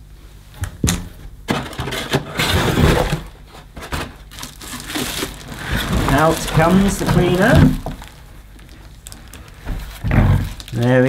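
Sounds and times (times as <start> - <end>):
pulp packing insert scraping: 1.5 - 10.8
plastic wrapping rustling: 1.5 - 11.0.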